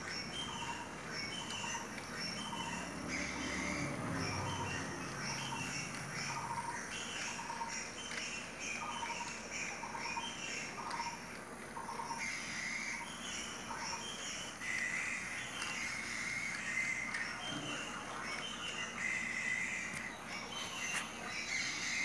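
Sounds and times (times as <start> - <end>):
toy train running on plastic track: 0.0 - 22.0.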